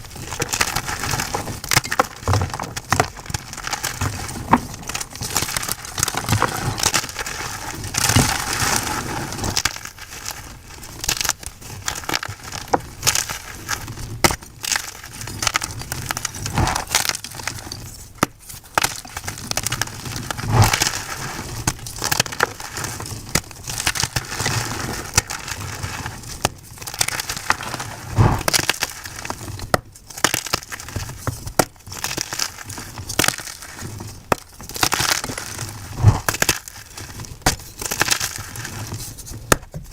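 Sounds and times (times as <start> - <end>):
chalk being crushed by hand: 0.0 - 39.9.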